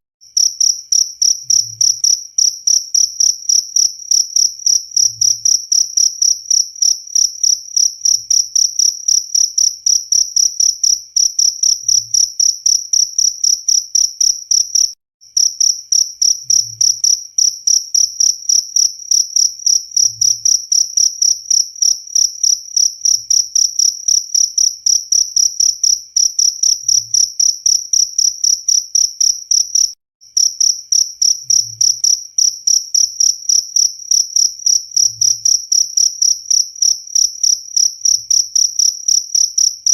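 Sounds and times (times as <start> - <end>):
cricket chirping: 0.3 - 39.9.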